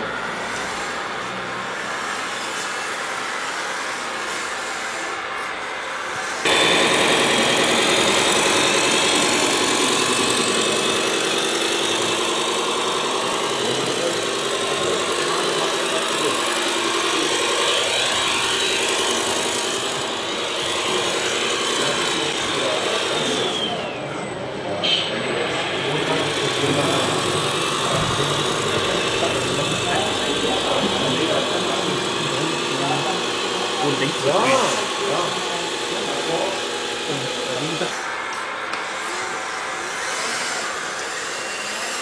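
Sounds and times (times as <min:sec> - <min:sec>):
model truck motor and gear whine: 0:00.0 - 0:42.0.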